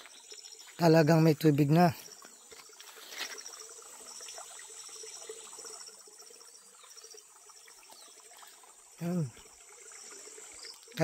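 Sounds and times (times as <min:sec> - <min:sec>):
faint trickle of water: 0:00.0 - 0:11.0
high insect drone: 0:00.0 - 0:11.0
insects chirping in pulses: 0:00.0 - 0:11.0.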